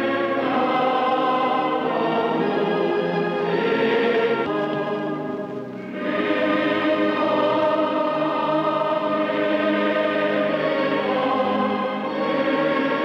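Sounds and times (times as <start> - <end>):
choir singing sustained chords: 0.0 - 13.0.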